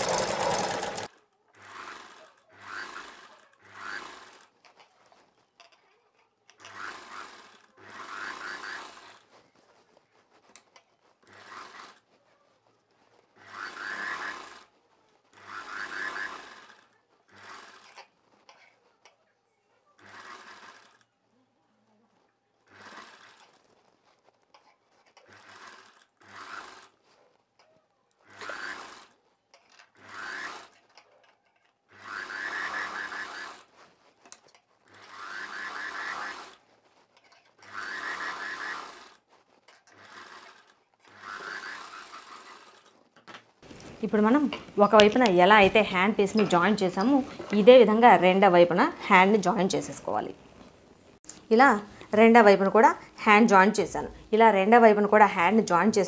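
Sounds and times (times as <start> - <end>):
sewing machine stitching: 0.0 - 56.0.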